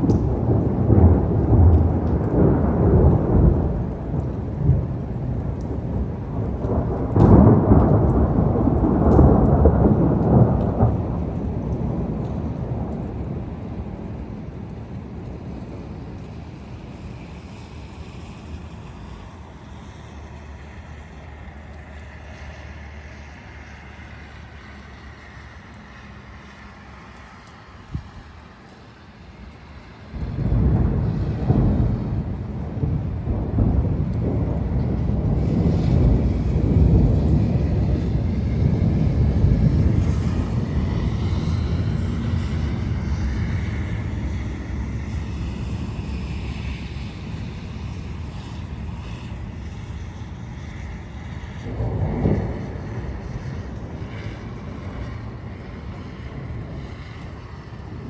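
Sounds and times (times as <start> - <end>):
rolling thunder: 0.0 - 21.5, 29.4 - 58.0
steady rain: 0.0 - 58.0.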